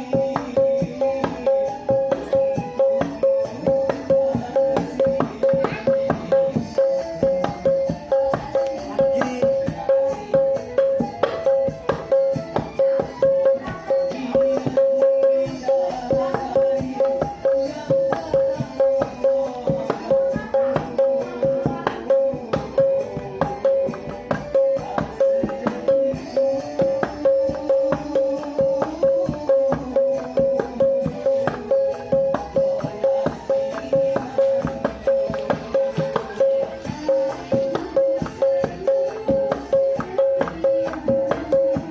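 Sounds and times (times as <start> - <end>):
paint can beaten as hand drum: 0.0 - 41.9.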